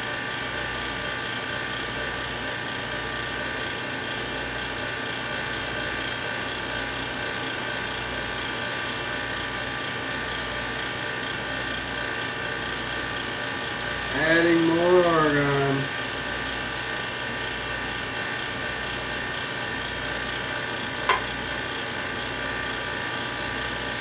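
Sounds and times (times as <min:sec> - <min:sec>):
electrical hum and whine: 0:00.0 - 0:24.0.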